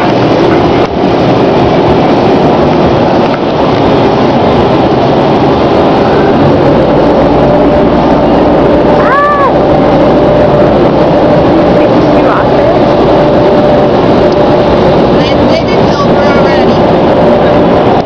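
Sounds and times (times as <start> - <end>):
faint hum: 0.0 - 18.0
water spray and machinery rushing: 0.0 - 18.0.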